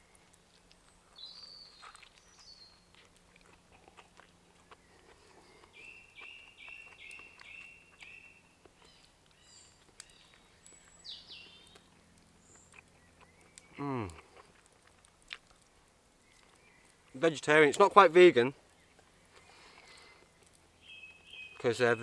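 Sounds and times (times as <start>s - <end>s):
birdsong: 0.0s - 14.5s, 16.2s - 22.0s
soft chewing: 0.0s - 21.7s.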